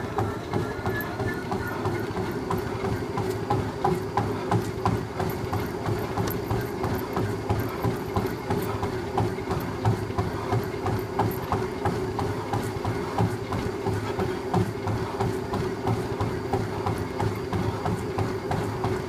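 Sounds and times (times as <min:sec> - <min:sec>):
running footfalls on treadmill belt: 0:00.0 - 0:19.0
treadmill motor hum: 0:00.0 - 0:19.0.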